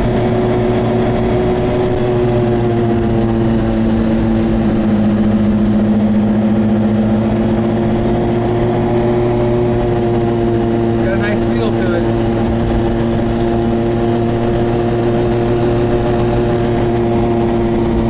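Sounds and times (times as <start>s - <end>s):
car engine: 0.0s - 18.0s
loud wheel hum: 0.0s - 18.0s
road noise: 0.0s - 18.0s.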